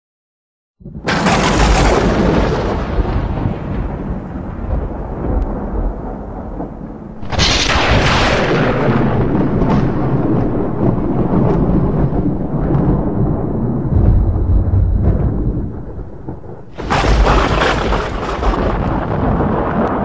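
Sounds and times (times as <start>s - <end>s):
loud thunderclap: 0.8s - 20.0s
thunder rumbling: 0.8s - 20.0s.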